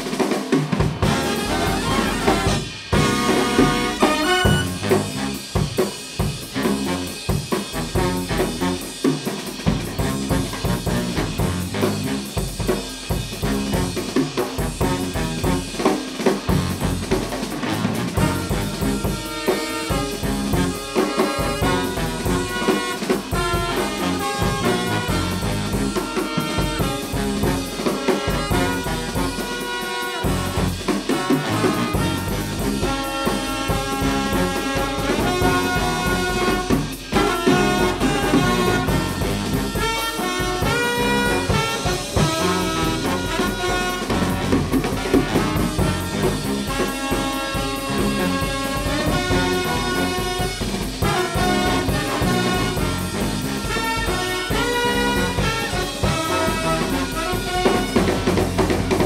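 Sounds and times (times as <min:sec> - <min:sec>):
driving drum kit: 0:00.0 - 0:59.0
jazz big band playing swing: 0:00.0 - 0:59.0
trumpets and trombones: 0:00.0 - 0:59.0.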